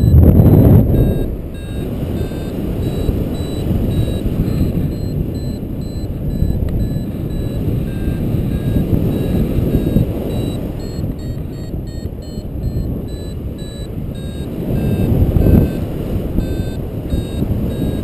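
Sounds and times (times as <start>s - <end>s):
variometer beeping: 0.0s - 18.0s
wind on microphone: 0.0s - 18.0s.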